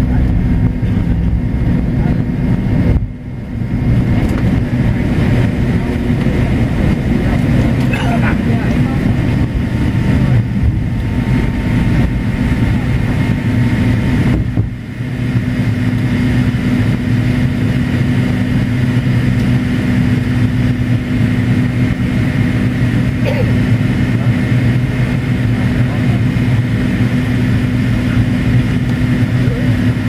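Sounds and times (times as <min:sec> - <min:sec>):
airflow rush: 0:00.0 - 0:30.0
jet engine drone: 0:00.0 - 0:30.0.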